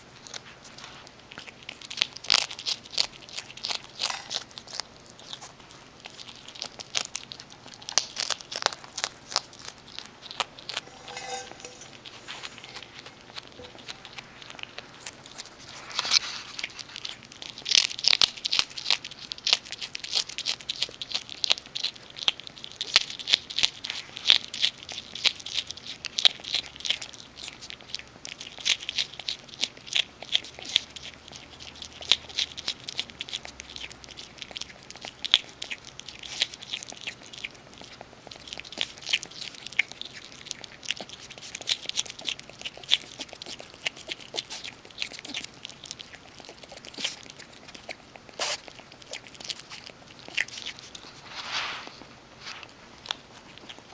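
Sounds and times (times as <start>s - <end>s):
skunk chewing and crunching: 0.0s - 53.9s.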